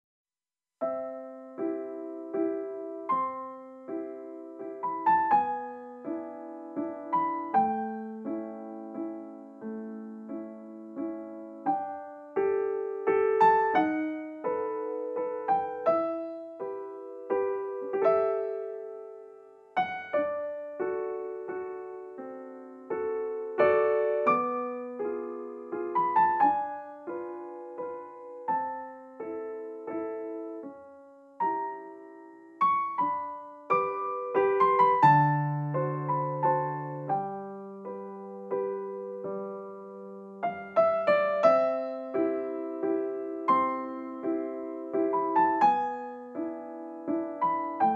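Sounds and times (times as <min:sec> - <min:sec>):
slow solo piano: 0:00.8 - 0:47.9.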